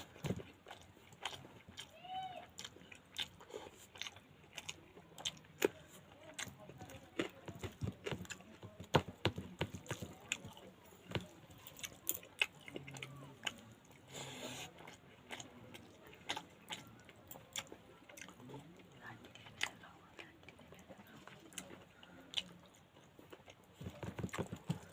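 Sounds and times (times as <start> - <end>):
chewing and mouth smacking: 0.0 - 24.9.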